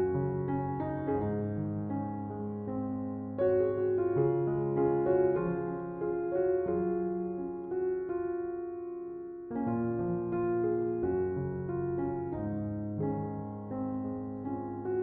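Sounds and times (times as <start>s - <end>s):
gentle solo piano melody: 0.0s - 15.0s.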